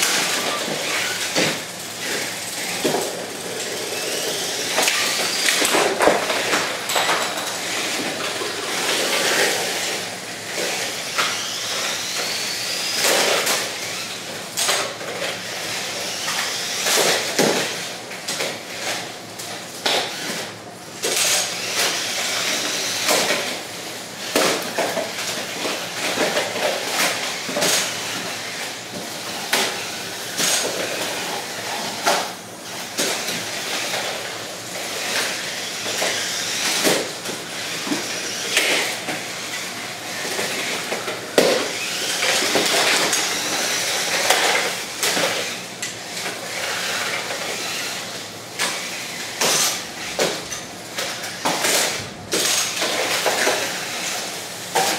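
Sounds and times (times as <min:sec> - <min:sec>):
electric motors whining: 0:00.0 - 0:54.9.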